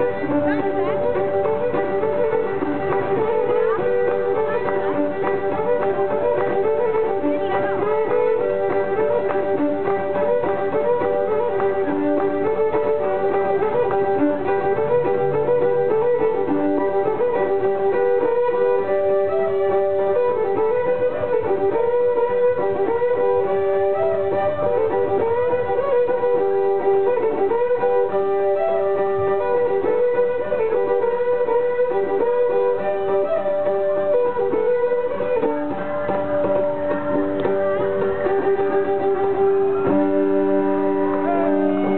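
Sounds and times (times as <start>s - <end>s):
bowed fiddle tune: 0.0s - 41.9s
plucked string accompaniment: 0.0s - 41.9s
sticks beating fiddle strings: 0.0s - 41.9s.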